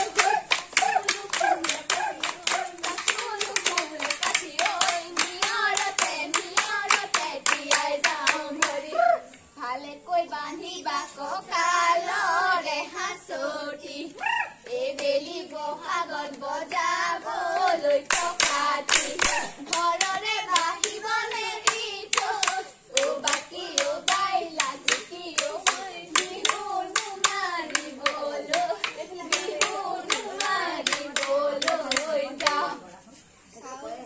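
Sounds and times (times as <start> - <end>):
rhythmic hand-clapping: 0.0 - 9.1, 14.6 - 32.8
girls singing together: 0.0 - 32.9.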